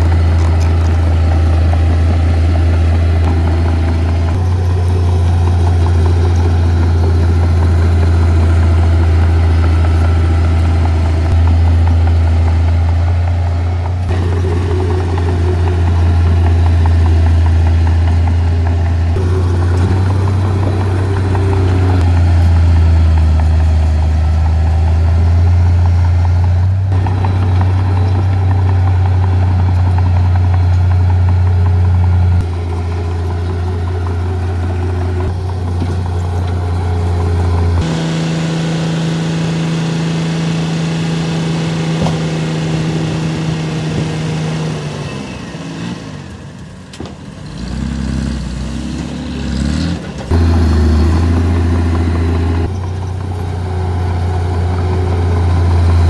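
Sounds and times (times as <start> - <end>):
diesel engines humming: 0.0 - 56.0.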